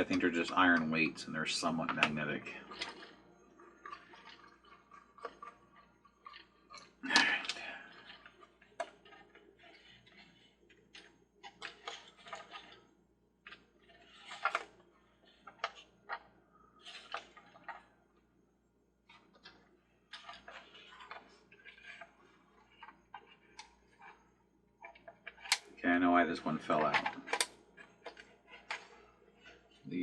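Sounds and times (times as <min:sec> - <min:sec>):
plastic and metal parts clicking: 0:00.0 - 0:12.8, 0:13.4 - 0:17.9, 0:19.1 - 0:24.2, 0:24.8 - 0:25.8, 0:26.4 - 0:29.9
parts clattering: 0:00.0 - 0:18.3, 0:19.0 - 0:30.0.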